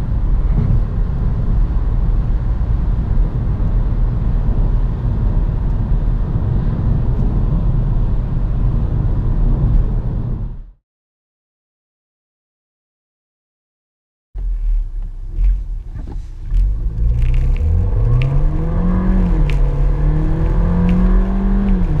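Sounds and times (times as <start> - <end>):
car cabin engine rumble: 0.0 - 10.7, 14.4 - 22.0.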